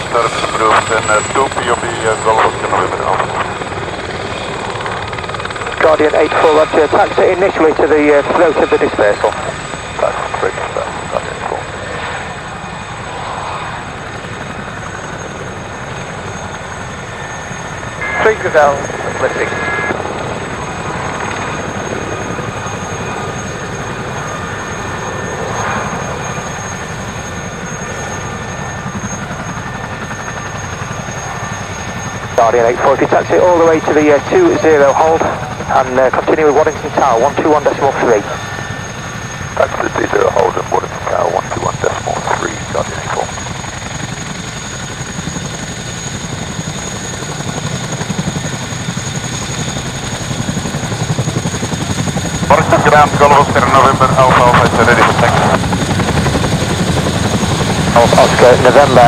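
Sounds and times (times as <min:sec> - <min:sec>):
helicopter rotors beating: 0:00.0 - 0:59.0.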